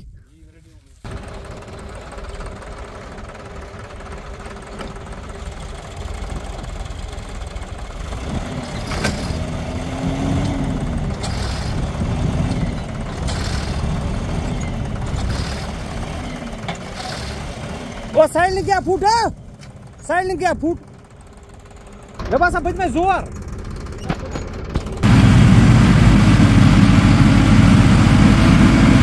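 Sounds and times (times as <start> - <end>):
diesel tractor engines straining: 0.9 - 29.0.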